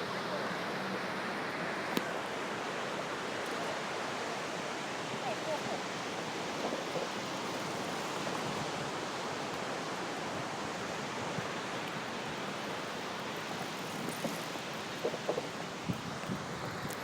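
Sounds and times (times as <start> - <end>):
ocean surf: 0.0 - 17.0
wind: 0.0 - 17.0.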